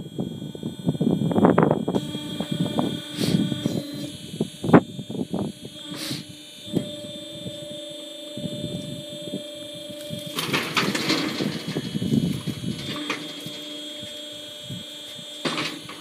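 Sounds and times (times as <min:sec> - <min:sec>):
steady electric motor hum: 0:00.0 - 0:16.0.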